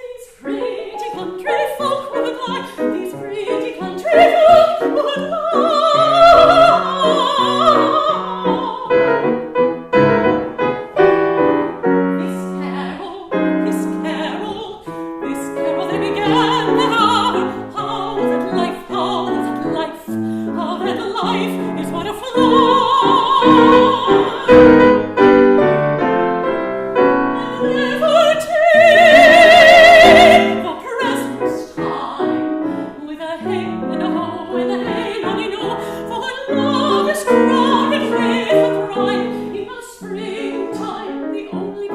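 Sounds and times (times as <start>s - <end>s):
woman singing with vibrato: 0.0s - 9.4s, 12.0s - 25.0s, 27.1s - 41.9s
piano accompaniment: 0.0s - 41.9s.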